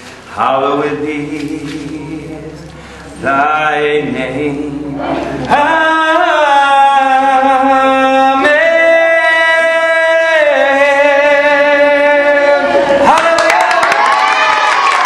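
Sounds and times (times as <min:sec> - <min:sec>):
man singing unaccompanied: 0:00.3 - 0:13.4.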